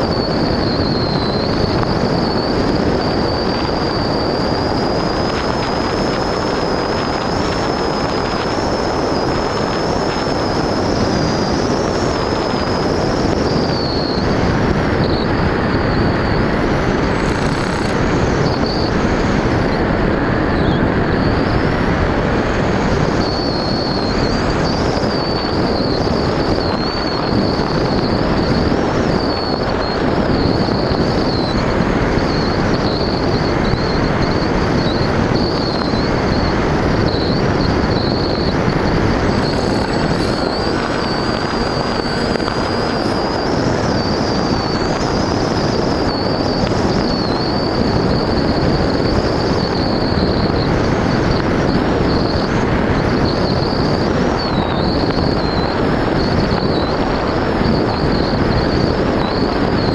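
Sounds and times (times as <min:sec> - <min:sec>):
model aircraft motor whine: 0:00.0 - 0:59.9
rushing wind: 0:00.0 - 0:59.9.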